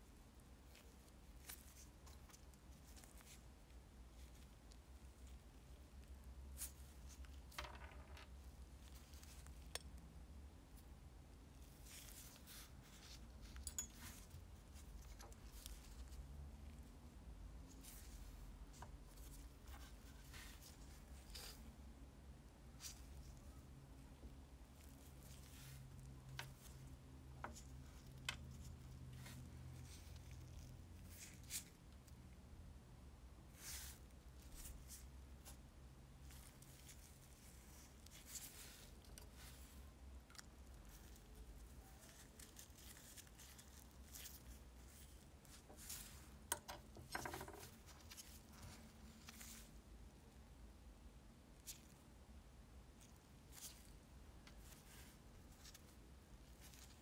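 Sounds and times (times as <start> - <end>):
soft rustling of gloves: 0.0 - 57.0.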